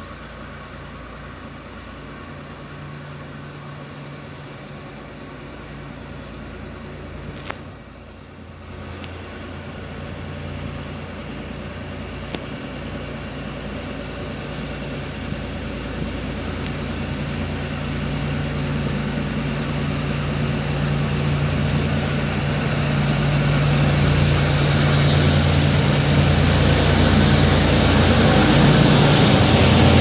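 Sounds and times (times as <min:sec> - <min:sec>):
diesel locomotive engines droning: 0:00.0 - 0:30.0.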